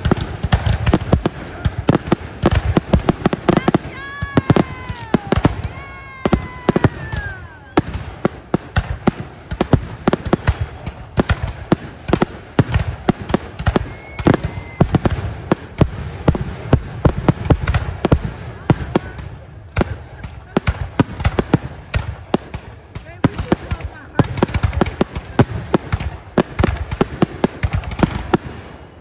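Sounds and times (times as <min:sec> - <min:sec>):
firework bangs and crackling: 0:00.0 - 0:29.0
whistling fireworks: 0:00.0 - 0:29.0.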